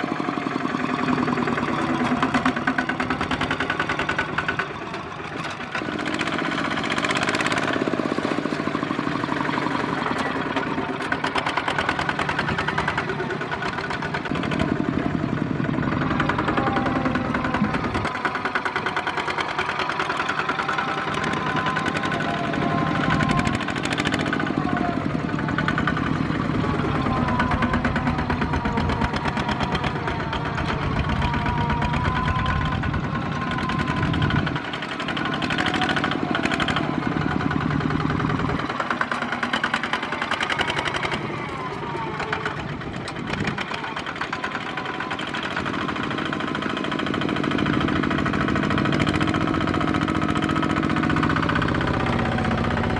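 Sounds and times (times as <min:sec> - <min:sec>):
diesel engines chugging: 0:00.0 - 0:52.9.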